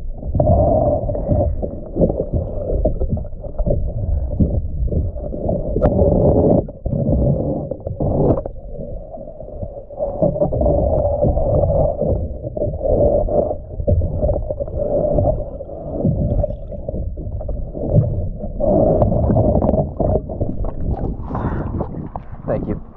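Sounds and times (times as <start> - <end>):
underwater bubbles gurgling: 0.0 - 22.9.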